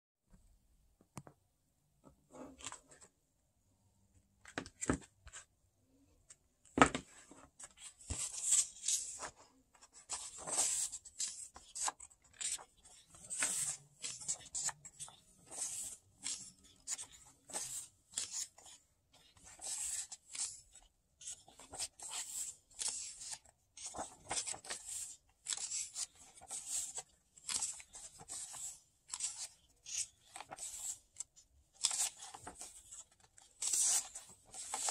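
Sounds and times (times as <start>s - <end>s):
paper pages rustling: 6.8s - 34.9s.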